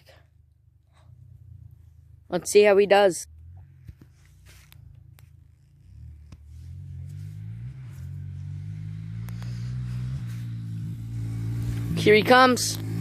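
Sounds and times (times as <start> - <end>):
dirt bike engine approaching: 0.1 - 13.0.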